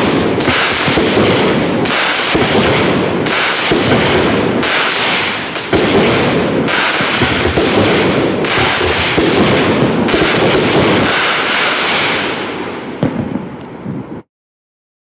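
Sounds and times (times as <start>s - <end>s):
firework pops: 0.0s - 12.3s, 13.0s - 14.2s
firework bangs and shell bursts: 0.0s - 14.2s.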